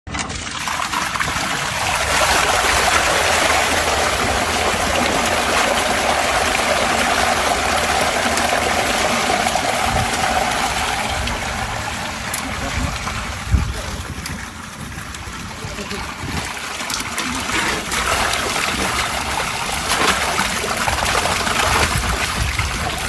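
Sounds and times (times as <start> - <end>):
water rushing from sewer line: 0.1 - 23.0.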